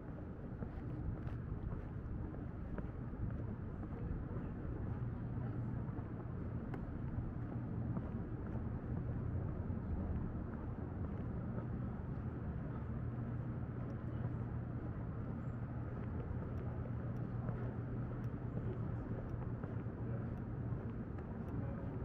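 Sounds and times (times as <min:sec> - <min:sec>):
outdoor rumble with low hum: 0:00.0 - 0:22.0.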